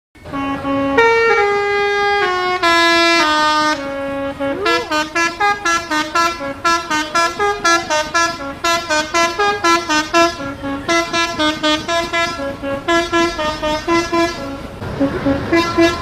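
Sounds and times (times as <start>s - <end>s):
musical air horn playing tune: 0.2s - 16.0s.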